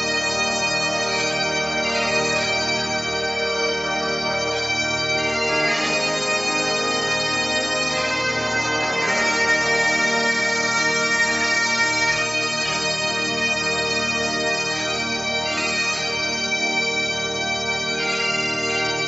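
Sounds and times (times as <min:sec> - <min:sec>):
bagpipe drone: 0:00.0 - 0:19.0
bagpipe melody: 0:00.0 - 0:19.0.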